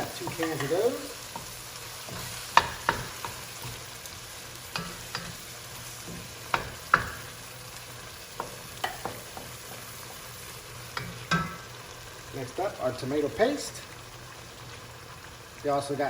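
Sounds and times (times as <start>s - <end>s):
meat sizzling in a pot: 0.0s - 16.0s.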